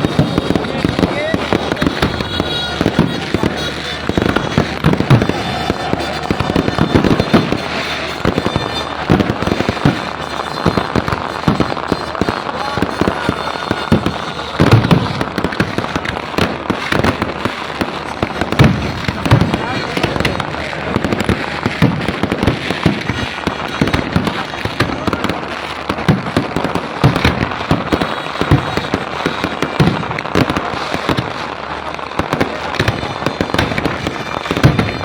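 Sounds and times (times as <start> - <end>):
fireworks and firecrackers banging: 0.0 - 35.0.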